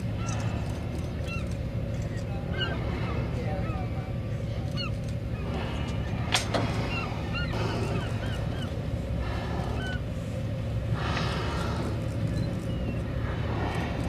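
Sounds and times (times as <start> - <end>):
birds chirping: 0.0 - 14.0
boat engine rumbling: 0.0 - 14.0.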